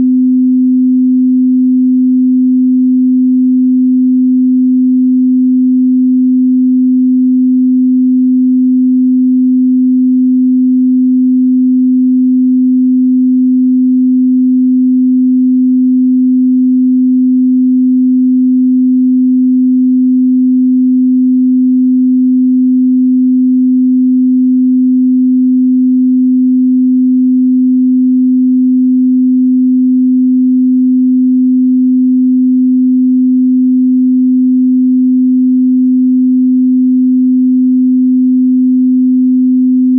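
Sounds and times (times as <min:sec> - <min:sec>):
sine tone: 0:00.0 - 0:39.9.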